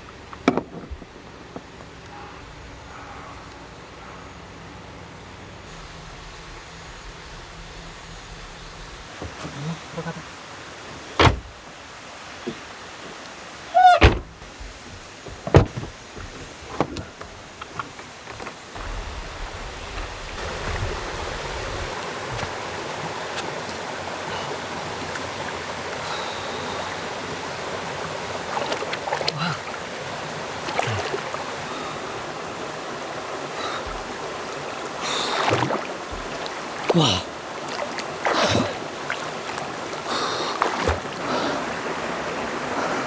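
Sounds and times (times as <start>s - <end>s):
stream water running: 0.0s - 43.0s.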